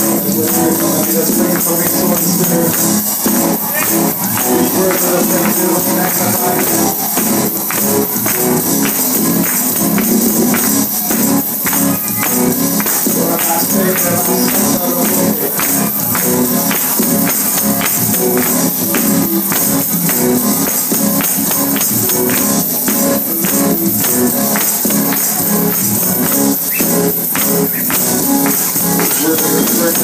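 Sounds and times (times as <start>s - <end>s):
gospel music: 0.0s - 30.0s
tambourine jingling: 0.0s - 30.0s.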